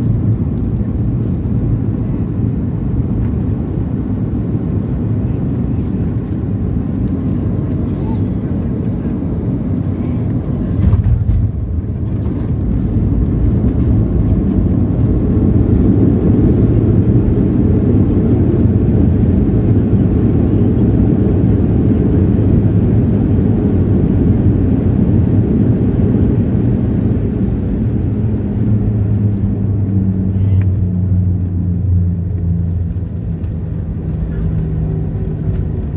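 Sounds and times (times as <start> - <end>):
aircraft engine rumble from cabin: 0.0 - 35.9.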